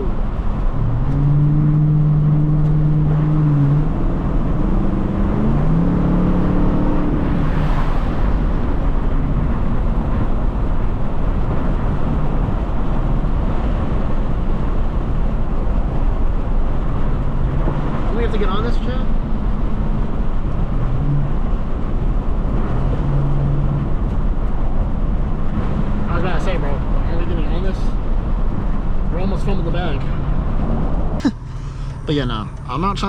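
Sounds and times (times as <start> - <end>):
car engine revving: 0.0 - 33.0
road noise inside car: 0.0 - 33.0.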